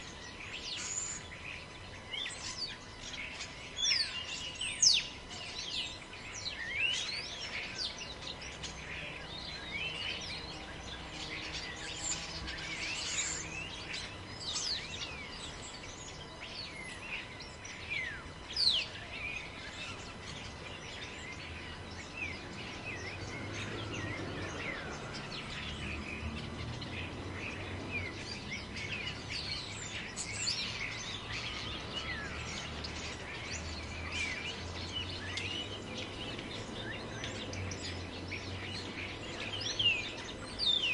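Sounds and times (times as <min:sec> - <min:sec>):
birds chirping and whistling: 0:00.0 - 0:40.9
wind in trees: 0:00.0 - 0:40.9.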